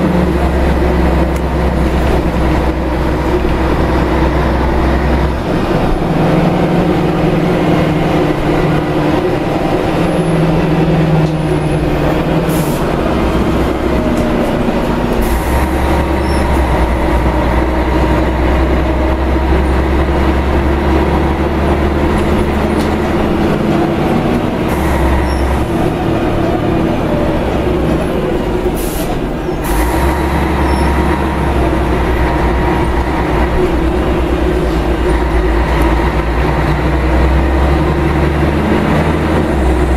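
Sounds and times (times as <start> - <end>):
bus diesel engine rumbling: 0.0 - 39.9
road rumble: 0.0 - 39.9.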